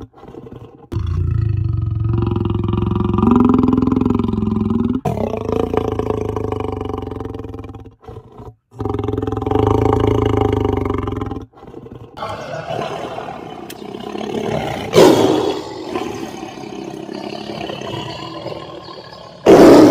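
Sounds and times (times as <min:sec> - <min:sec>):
big cat roaring and growling: 0:00.0 - 0:19.9.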